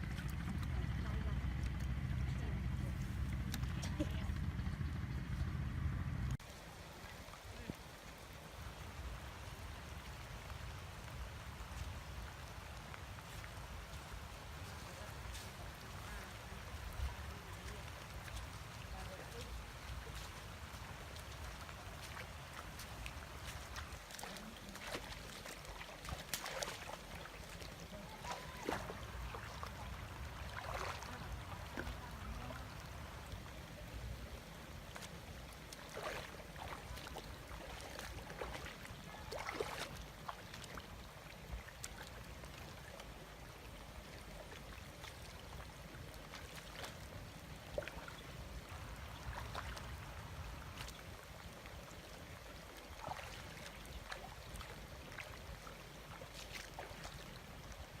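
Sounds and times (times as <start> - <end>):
low steady rumble: 0.0 - 52.2
water splashing and trickling: 0.0 - 58.0.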